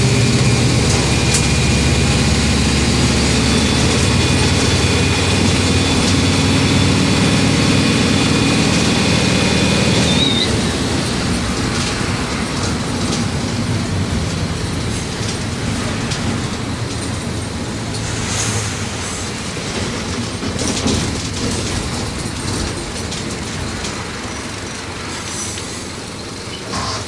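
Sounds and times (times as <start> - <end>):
diesel bus engine humming: 0.0 - 27.0.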